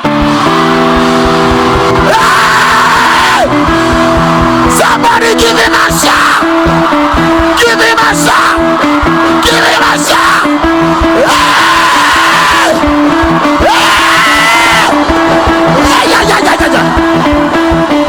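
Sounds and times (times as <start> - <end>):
crowd shouting and cheering: 0.0 - 18.0
live band playing upbeat song: 0.0 - 18.0.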